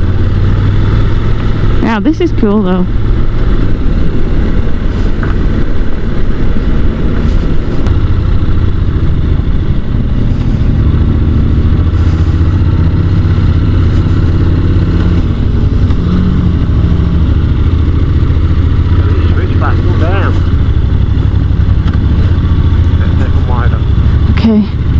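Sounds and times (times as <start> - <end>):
motorcycle engine running: 0.0 - 24.9
wind and road noise: 0.0 - 24.9.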